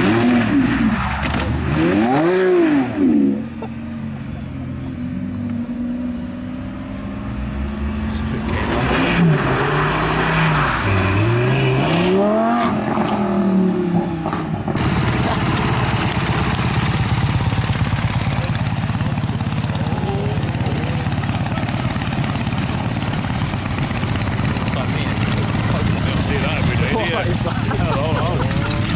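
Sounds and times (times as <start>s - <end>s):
racing engine revving: 0.0s - 3.7s, 6.2s - 28.9s.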